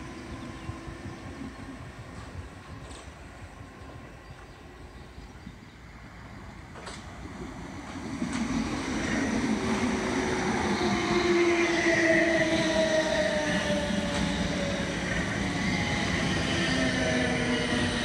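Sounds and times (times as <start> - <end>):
electric train passing: 0.0 - 18.0.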